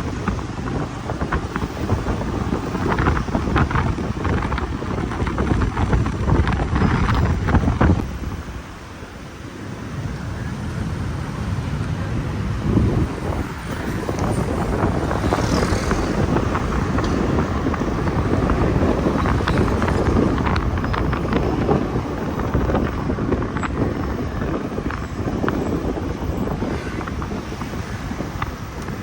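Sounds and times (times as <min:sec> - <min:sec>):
city traffic: 0:00.0 - 0:29.0
motorbike engine: 0:00.0 - 0:29.0
wind buffeting microphone: 0:00.0 - 0:29.0.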